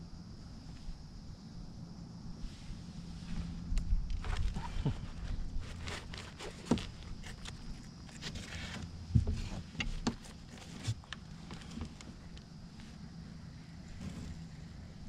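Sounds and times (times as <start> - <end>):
faint low hum: 0.0 - 15.0
soft rustling: 2.4 - 14.8.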